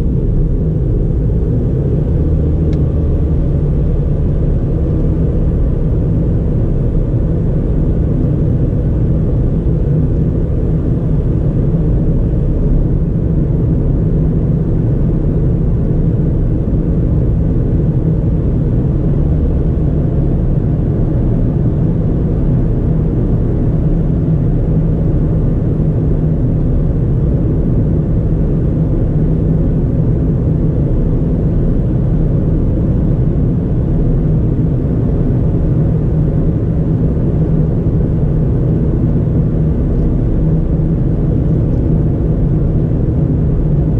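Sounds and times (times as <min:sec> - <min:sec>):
car engine cruising: 0:00.0 - 0:43.9.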